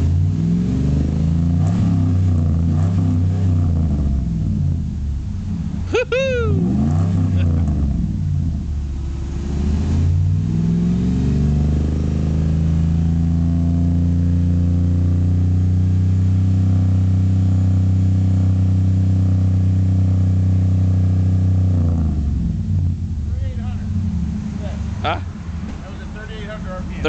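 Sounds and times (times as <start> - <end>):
engine revving through exhaust: 0.0 - 27.0.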